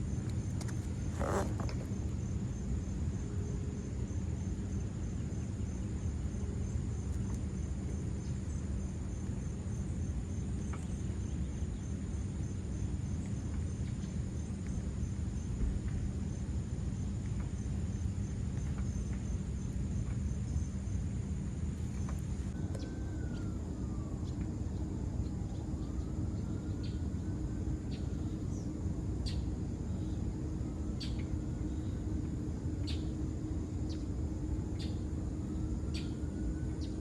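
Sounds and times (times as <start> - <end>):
cricket chirping: 0.0 - 37.0
steady low rumble: 0.0 - 37.0.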